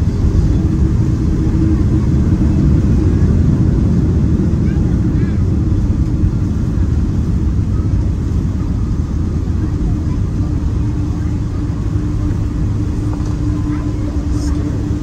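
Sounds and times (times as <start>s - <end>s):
airliner cabin rumble: 0.0s - 15.0s
steady hum: 0.0s - 15.0s.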